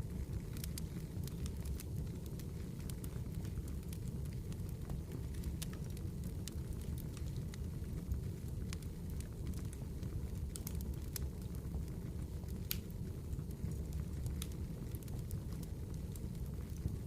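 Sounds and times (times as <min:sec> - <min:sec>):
campfire flames rushing: 0:00.0 - 0:17.0
fire crackles and pops: 0:00.0 - 0:17.0.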